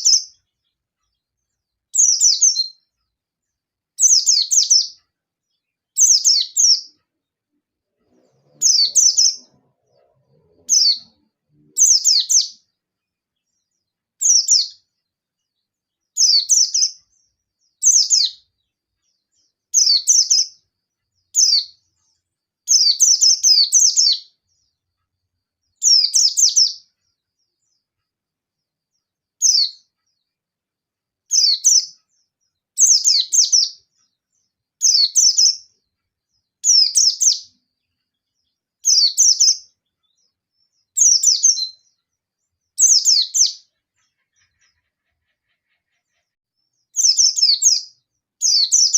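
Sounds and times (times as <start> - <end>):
bird rapid high chirps: 0.0 - 3.0, 4.0 - 7.2, 8.0 - 24.8, 25.6 - 27.8, 29.3 - 30.3, 31.3 - 35.8, 36.4 - 48.9.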